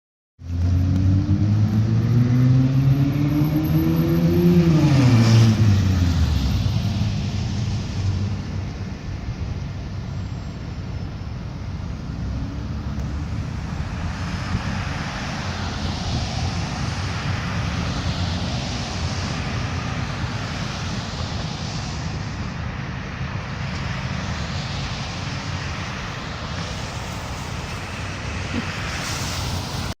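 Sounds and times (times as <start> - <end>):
engine rumble and roar: 0.4 - 30.0.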